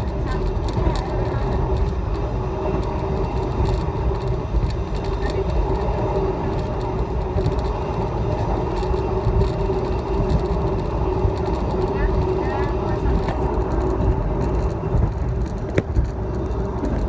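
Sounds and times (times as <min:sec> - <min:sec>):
constant hum: 0:00.0 - 0:17.0
train wheels rumbling on rails: 0:00.0 - 0:17.0.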